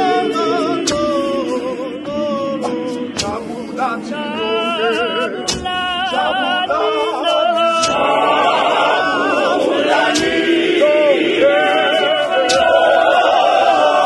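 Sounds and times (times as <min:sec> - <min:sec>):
mixed choir singing a cappella: 0:00.0 - 0:14.0.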